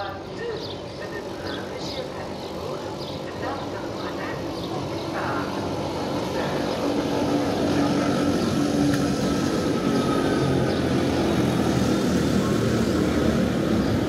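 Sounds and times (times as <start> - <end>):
train rolling noise: 0.0 - 14.0
electric train motor hum: 0.1 - 14.0.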